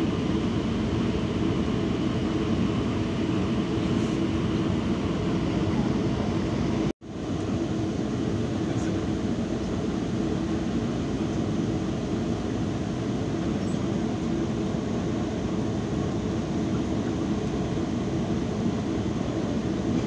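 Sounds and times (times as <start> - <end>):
constant low hum: 0.0 - 20.0
train rumble from inside: 0.0 - 20.0.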